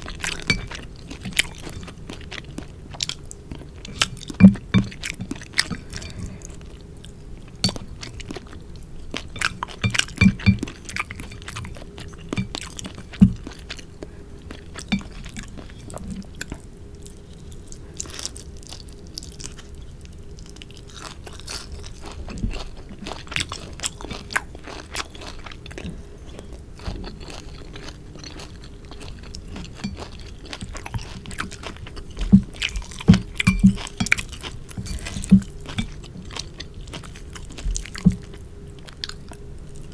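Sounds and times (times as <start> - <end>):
close chewing and crunchy biting: 0.0 - 39.9.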